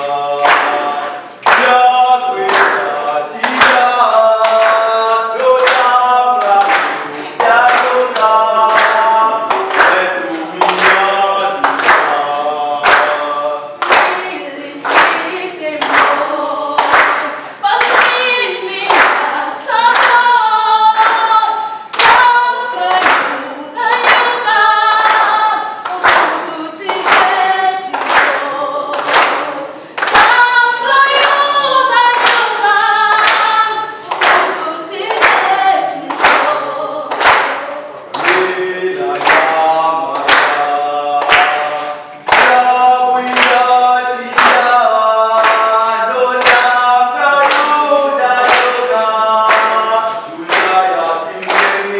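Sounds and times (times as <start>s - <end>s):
young voices singing together: 0.0s - 51.9s
hand claps: 0.4s - 51.9s.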